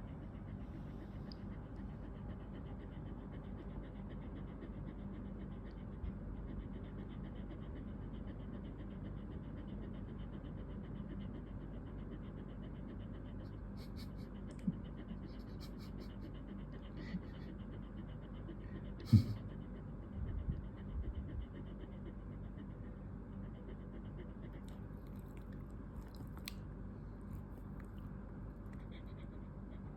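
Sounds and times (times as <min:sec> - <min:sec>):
dog panting heavily: 0:00.0 - 0:29.9.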